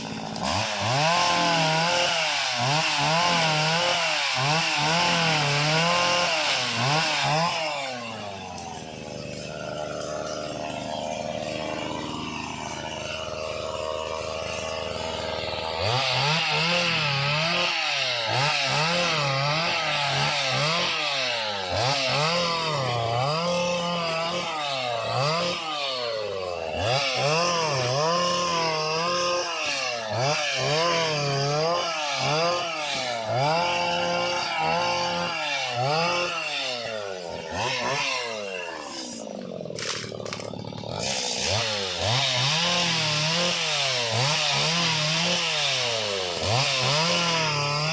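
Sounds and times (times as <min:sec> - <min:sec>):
small engine revving: 0:00.0 - 0:47.9.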